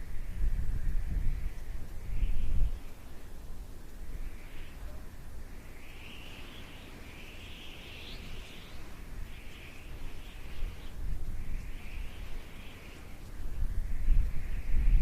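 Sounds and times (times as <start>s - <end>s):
wind rumble on microphone: 0.0s - 15.0s
birds singing: 1.4s - 15.0s.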